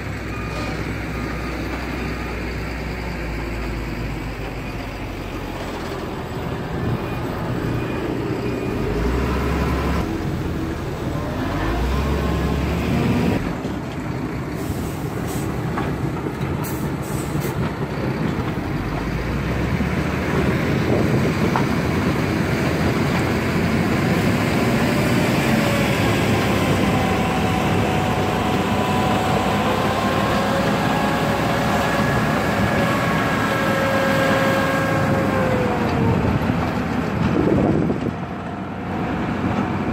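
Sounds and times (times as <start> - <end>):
backhoe diesel engine under load: 0.0 - 39.9
dump truck engine: 0.0 - 39.9.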